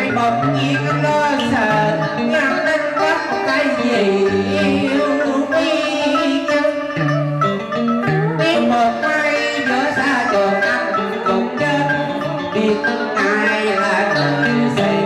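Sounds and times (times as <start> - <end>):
man singing through microphone: 0.0 - 6.8, 8.5 - 15.0
plucked strings accompaniment: 0.0 - 15.0.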